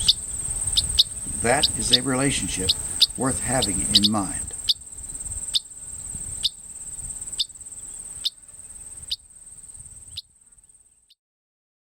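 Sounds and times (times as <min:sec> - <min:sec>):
insects trilling: 0:00.0 - 0:11.2.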